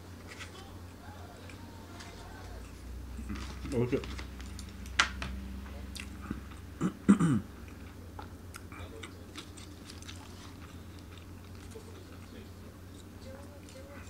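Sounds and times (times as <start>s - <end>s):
person chewing food: 0.2s - 5.2s, 5.8s - 14.0s.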